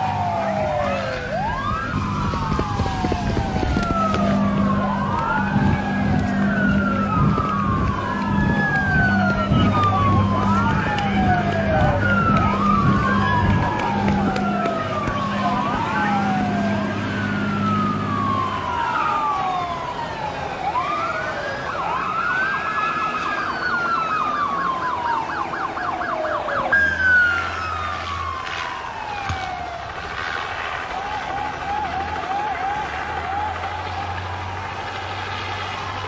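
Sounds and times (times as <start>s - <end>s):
siren fast yelp: 0.0s - 34.6s
police sirens wailing: 0.0s - 36.0s.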